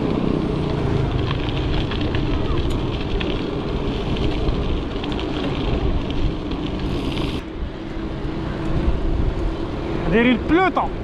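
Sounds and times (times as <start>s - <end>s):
tyres rolling on pavement: 0.0s - 11.0s.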